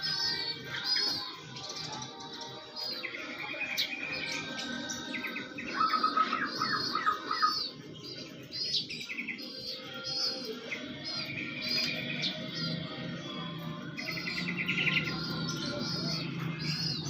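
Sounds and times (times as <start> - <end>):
birds chirping high tweets: 0.0 - 17.0.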